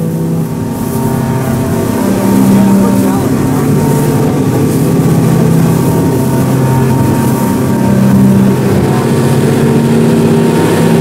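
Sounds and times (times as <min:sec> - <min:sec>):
outboard motors droning: 0:00.0 - 0:11.0
water rushing past hull: 0:00.0 - 0:11.0.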